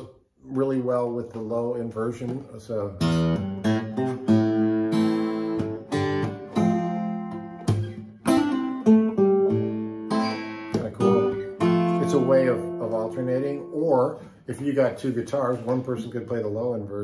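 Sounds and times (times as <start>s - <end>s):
acoustic guitar chords: 0.1s - 16.8s.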